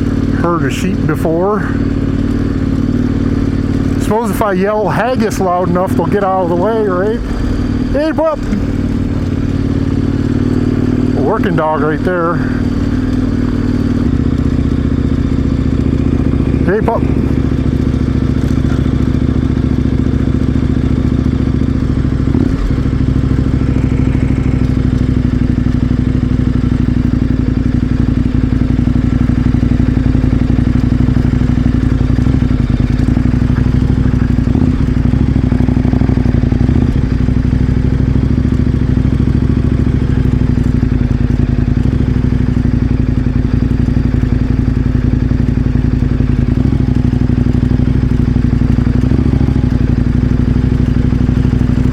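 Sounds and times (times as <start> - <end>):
motorcycle engine idling low: 0.0 - 51.9
light engine clatters: 0.1 - 51.9.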